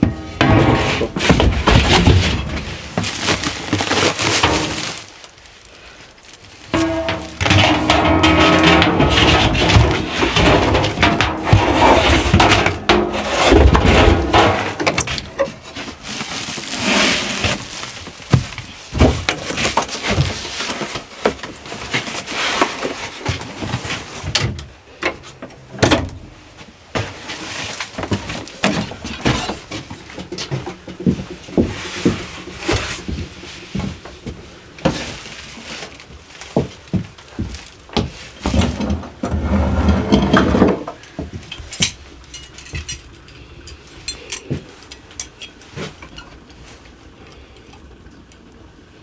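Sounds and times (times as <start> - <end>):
knocks clatters and cracks: 0.0 - 47.9.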